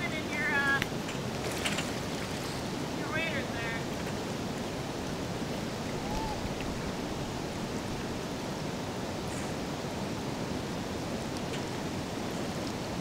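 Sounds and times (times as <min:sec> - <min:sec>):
water rushing over a weir: 0:00.0 - 0:13.0.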